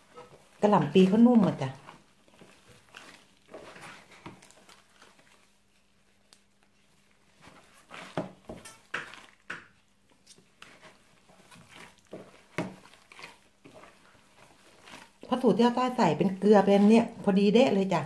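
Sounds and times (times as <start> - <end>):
hand squelching ground meat: 0.0 - 18.0.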